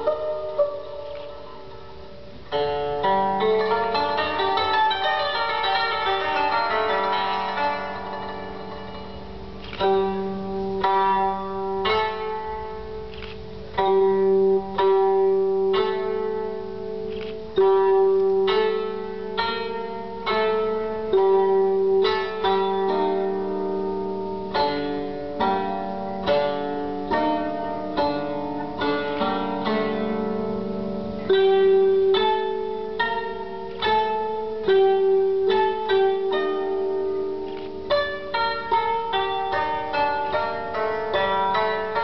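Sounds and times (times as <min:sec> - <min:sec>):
plucked string instrument melody: 0:00.0 - 0:42.0
steady low held tone: 0:00.0 - 0:42.0.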